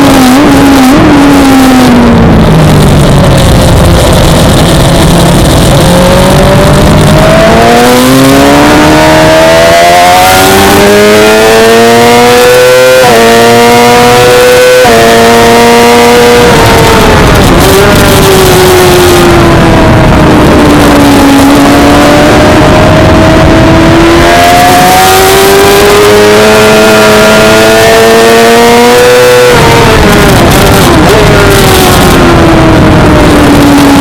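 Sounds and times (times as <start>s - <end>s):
motorcycle engine at racing revs: 0.0s - 34.0s.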